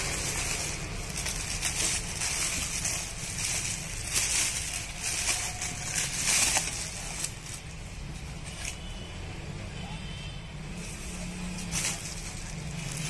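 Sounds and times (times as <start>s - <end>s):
plastic wrapping crinkling: 0.0s - 9.0s, 10.8s - 13.0s.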